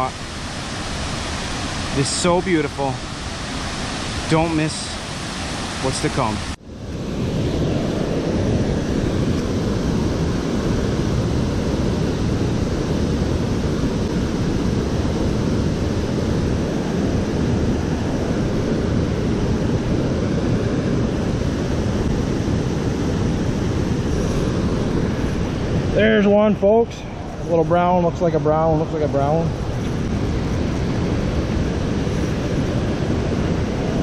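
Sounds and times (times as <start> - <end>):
waterfall roar: 0.0 - 34.0.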